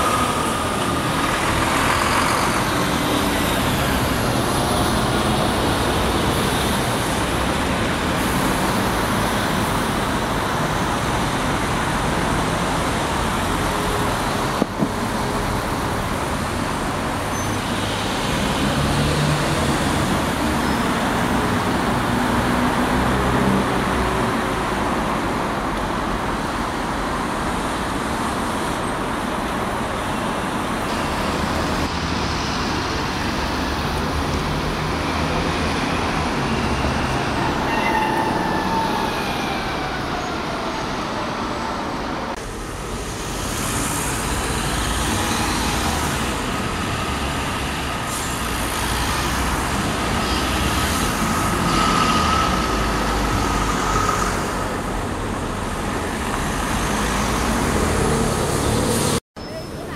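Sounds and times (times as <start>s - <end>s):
buses and cars driving past: 0.0s - 59.9s.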